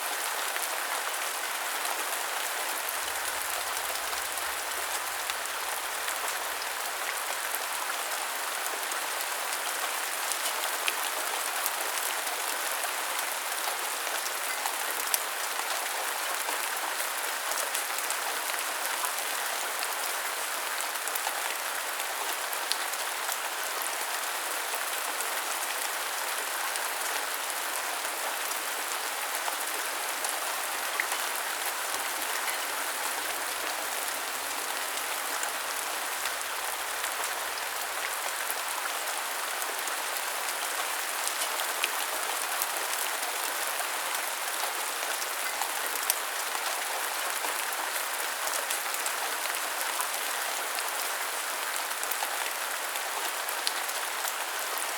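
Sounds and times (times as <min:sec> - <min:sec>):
rain pattering: 0:00.1 - 0:54.9.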